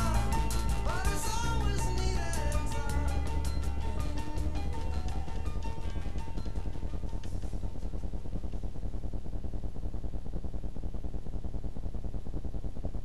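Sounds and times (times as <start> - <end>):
pulsing electrical hum: 0.0 - 13.0.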